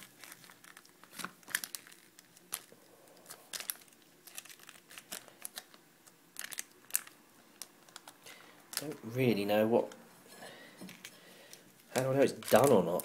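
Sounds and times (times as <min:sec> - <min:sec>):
plastic pouch crinkling: 0:00.0 - 0:10.0, 0:10.8 - 0:13.0.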